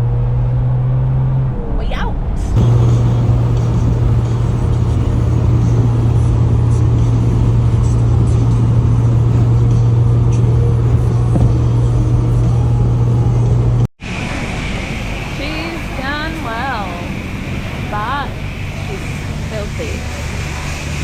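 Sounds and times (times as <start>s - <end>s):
vehicle engine and tyres droning: 0.0s - 21.0s.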